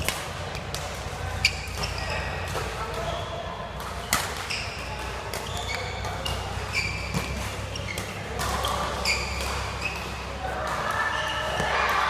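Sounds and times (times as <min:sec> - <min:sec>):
shoes squeaking on court: 0:00.0 - 0:11.8
racket hitting shuttlecock: 0:00.0 - 0:12.0.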